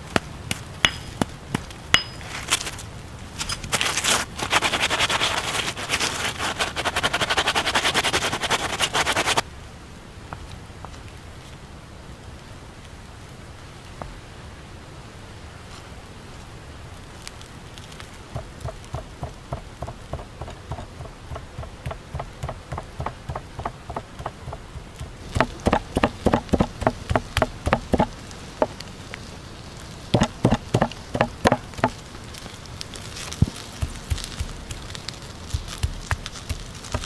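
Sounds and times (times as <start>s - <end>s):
light hiss: 0.0s - 37.0s.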